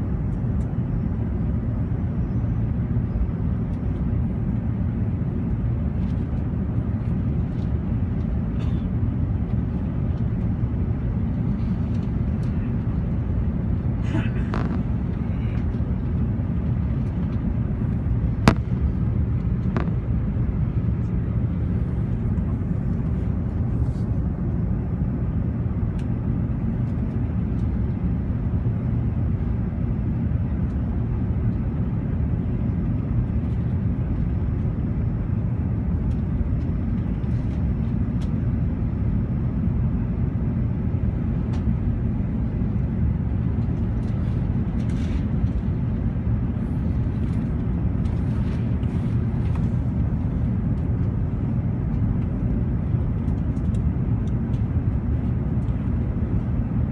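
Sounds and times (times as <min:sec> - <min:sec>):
airplane cabin rumble: 0:00.0 - 0:56.9.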